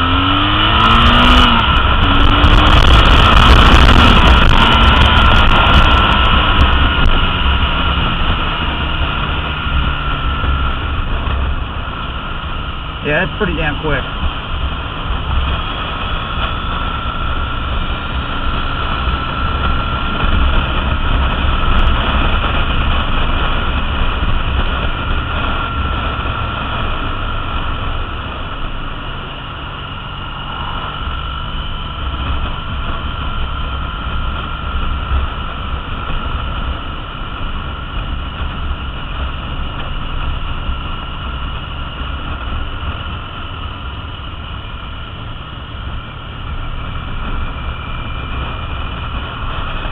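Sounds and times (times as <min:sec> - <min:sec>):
motorcycle engine running: 0:00.0 - 0:49.9
wind rush: 0:00.0 - 0:49.9.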